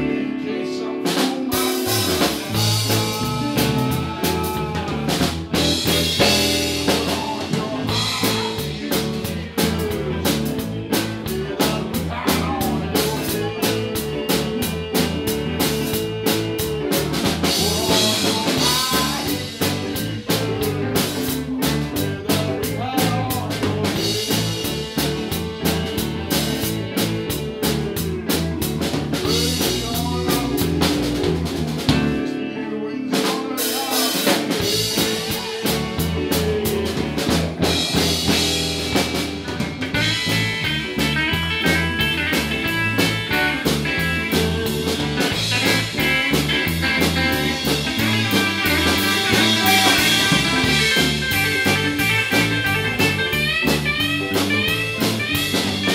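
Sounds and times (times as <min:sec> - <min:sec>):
bass guitar: 0:00.0 - 0:55.9
electric guitar: 0:00.0 - 0:55.9
drum kit beat: 0:01.0 - 0:32.5, 0:33.1 - 0:55.9.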